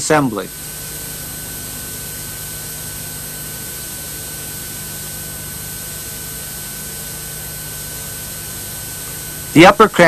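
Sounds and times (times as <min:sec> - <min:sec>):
low hum: 0:00.0 - 0:09.9
faint high whine: 0:00.0 - 0:10.0
steady hiss: 0:00.0 - 0:10.0.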